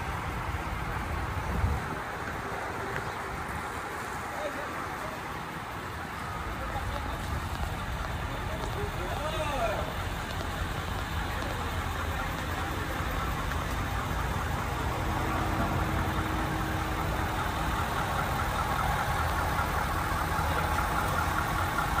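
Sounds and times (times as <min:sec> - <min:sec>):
rapid engine ticking: 0:00.0 - 0:22.0
truck engine idling: 0:00.0 - 0:22.0.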